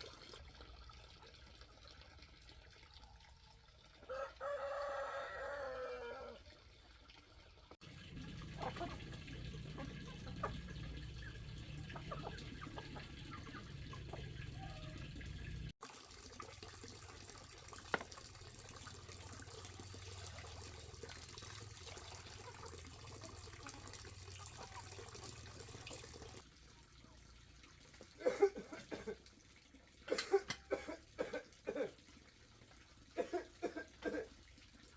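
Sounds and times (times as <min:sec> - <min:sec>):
water running and trickling: 0:00.0 - 0:34.9.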